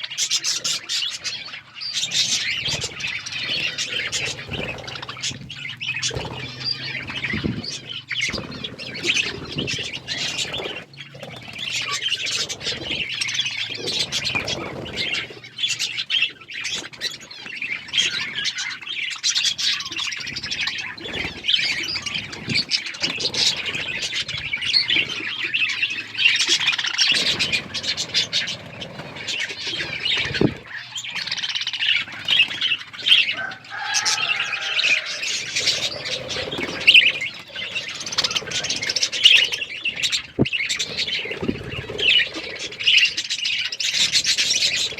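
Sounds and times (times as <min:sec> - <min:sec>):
budgerigars chattering: 0:00.0 - 0:44.9
wings fluttering: 0:00.0 - 0:44.9.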